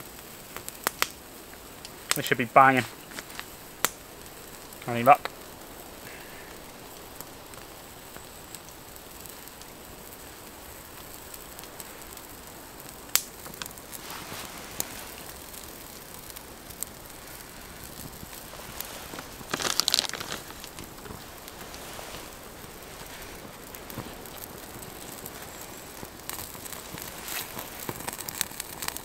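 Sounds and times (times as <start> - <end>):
fire popping: 0.0 - 29.0
wood fire crackling: 0.0 - 29.0
rustling: 1.9 - 9.7, 10.9 - 29.0.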